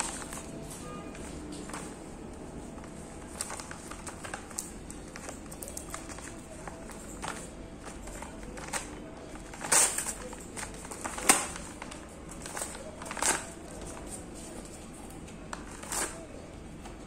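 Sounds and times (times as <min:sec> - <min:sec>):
paper mailer rustling and crinkling: 0:00.0 - 0:17.0
sharp paper crackles: 0:00.0 - 0:17.0.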